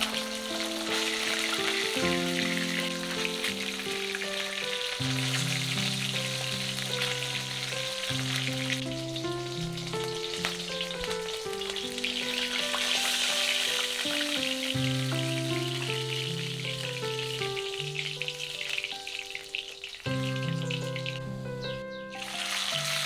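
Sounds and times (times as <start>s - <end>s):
fish sizzling in hot oil: 0.0s - 21.5s, 22.1s - 23.0s
soft background music: 0.0s - 23.0s.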